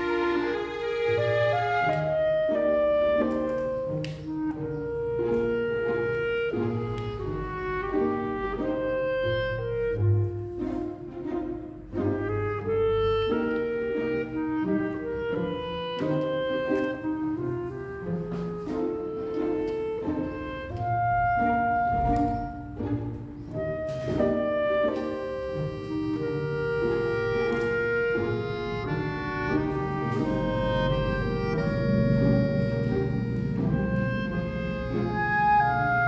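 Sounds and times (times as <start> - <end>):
instrumental music: 0.0 - 36.0.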